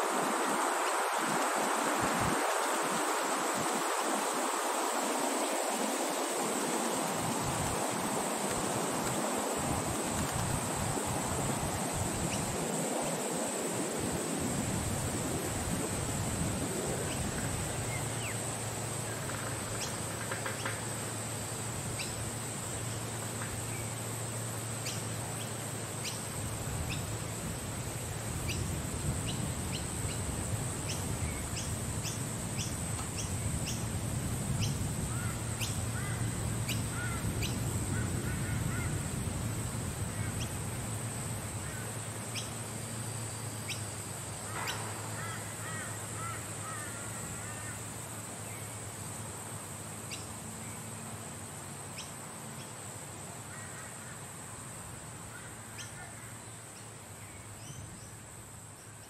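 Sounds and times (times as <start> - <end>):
thin high hiss: 0.0 - 59.0.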